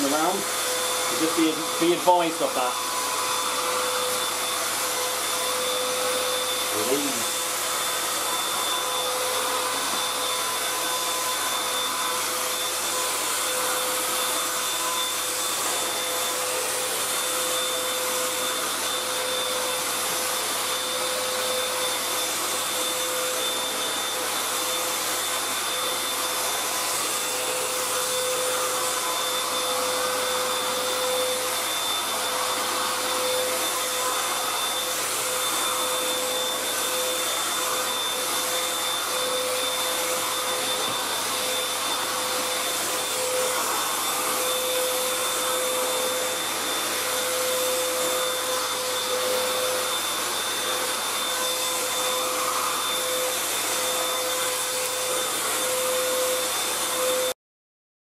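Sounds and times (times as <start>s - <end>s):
handheld vacuum cleaner running: 0.0s - 57.4s.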